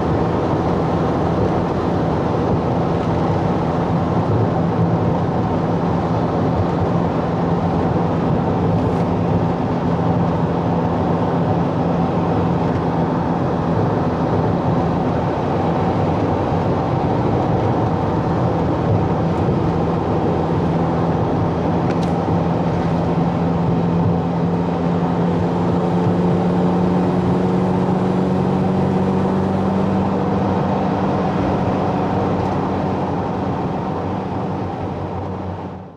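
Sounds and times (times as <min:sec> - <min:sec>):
road noise: 0:00.0 - 0:35.9
vehicle engine drone: 0:00.0 - 0:35.9.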